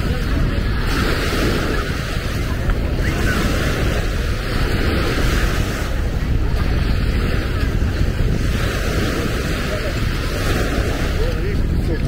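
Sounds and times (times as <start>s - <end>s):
sea waves washing onto beach: 0.0s - 12.0s
wind buffeting microphone: 0.0s - 12.0s.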